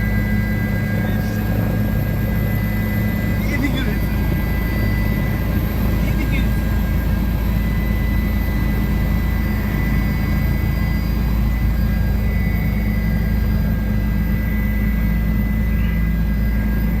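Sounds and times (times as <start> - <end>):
faint high whine: 0.0 - 17.0
helicopter engine and rotors drone: 0.0 - 17.0.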